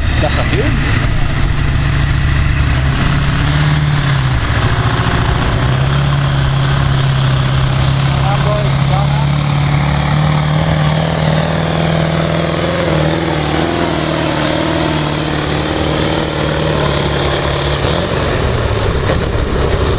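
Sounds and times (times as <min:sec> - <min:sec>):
tractor engine running loud: 0:00.0 - 0:19.9.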